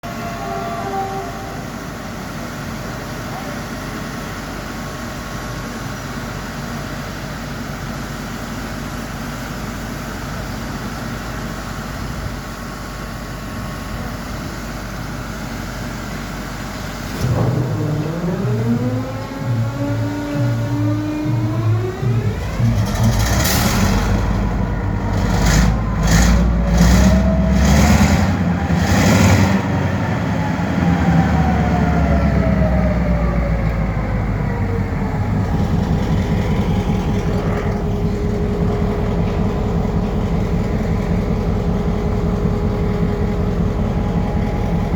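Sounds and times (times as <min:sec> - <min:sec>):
locomotive engine running: 0:00.0 - 0:44.9
steady whine: 0:00.0 - 0:44.9.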